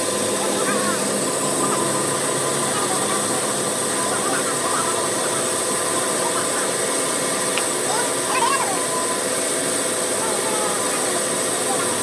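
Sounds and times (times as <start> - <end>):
machinery hum: 0.0 - 12.0
woodworking machinery hiss: 0.0 - 12.0.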